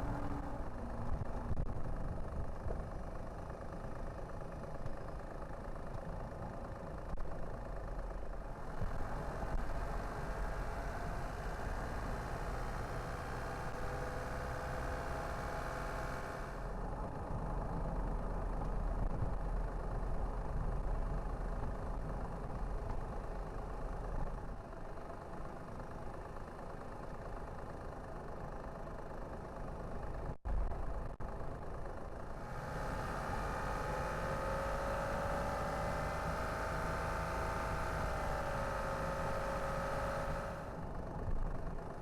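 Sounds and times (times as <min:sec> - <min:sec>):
car engine and road rumble: 0:00.0 - 0:42.0.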